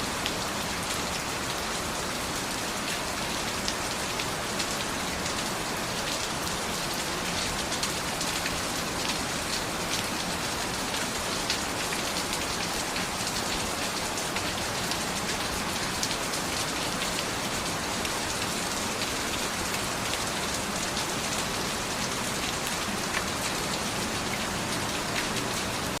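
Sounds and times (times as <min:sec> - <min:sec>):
steady rain hiss: 0:00.0 - 0:26.0
raindrops ticking on a surface: 0:00.1 - 0:26.0.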